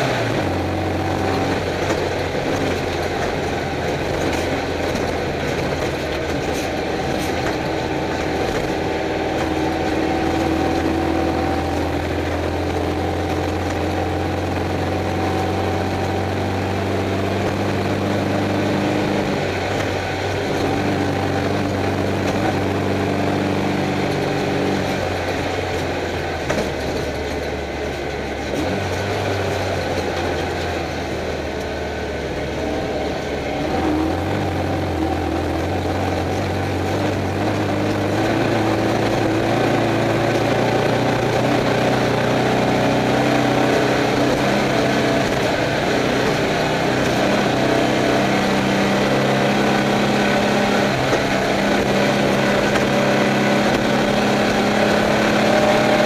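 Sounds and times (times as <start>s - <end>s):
car engine running hard: 0.0s - 56.0s
car rumbling on dirt: 0.0s - 56.0s.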